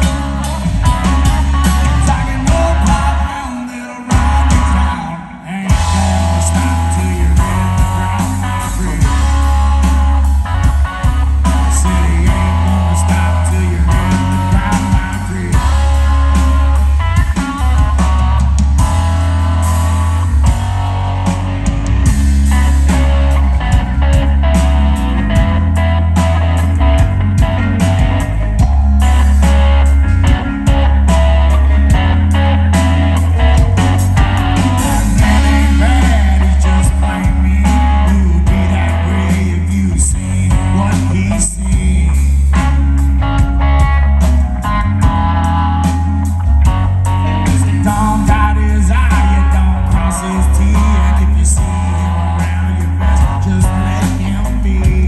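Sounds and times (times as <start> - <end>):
bass guitar: 0.0 - 55.0
country-rock band playing: 0.0 - 55.0
drum kit: 0.0 - 55.0
electric guitar lines: 0.0 - 55.0.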